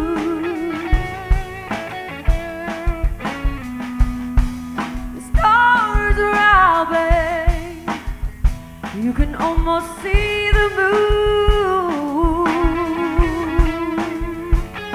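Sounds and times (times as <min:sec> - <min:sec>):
live band playing soul blues: 0:00.0 - 0:14.9.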